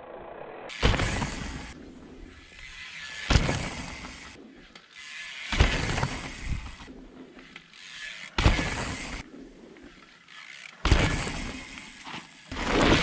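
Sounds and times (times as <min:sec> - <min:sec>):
bike rattling: 0:00.0 - 0:13.0
bike landing thumps: 0:00.7 - 0:04.4, 0:05.4 - 0:09.2, 0:09.9 - 0:13.0.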